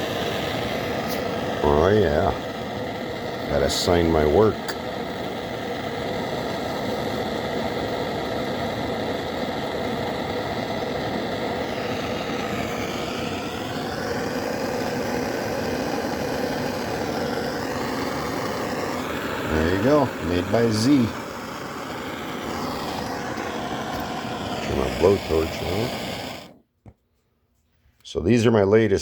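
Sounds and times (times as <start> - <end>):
high-pitched whine: 0.0 - 26.6.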